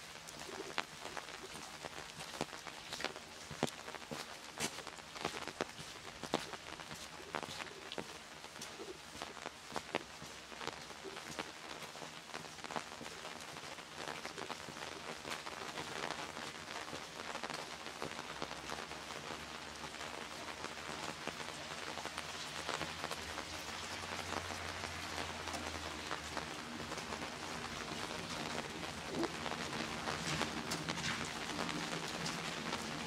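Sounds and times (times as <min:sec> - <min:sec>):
rain on wet pavement: 0:00.0 - 0:33.0.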